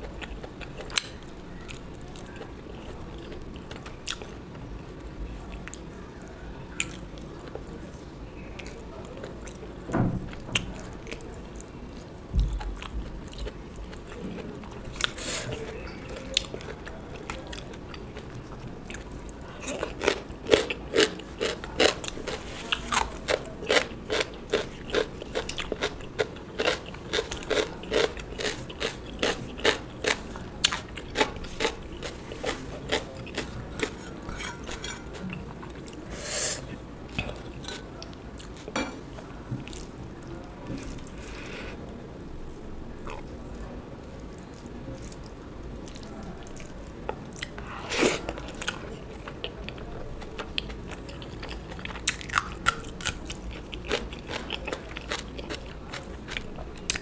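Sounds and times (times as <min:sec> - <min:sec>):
chewing and crunching food: 0:00.0 - 0:04.8, 0:06.7 - 0:07.8, 0:10.3 - 0:41.8, 0:42.5 - 0:57.0.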